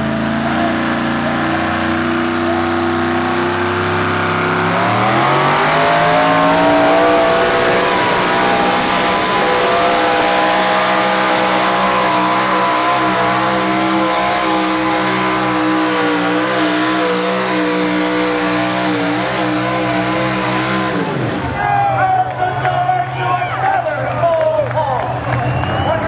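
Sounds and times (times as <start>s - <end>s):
tractor engine at full throttle: 0.0s - 26.0s.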